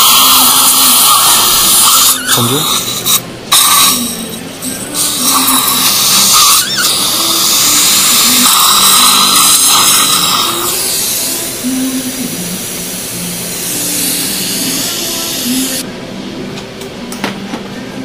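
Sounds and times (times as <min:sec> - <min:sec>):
dental suction hiss: 0:00.0 - 0:15.8.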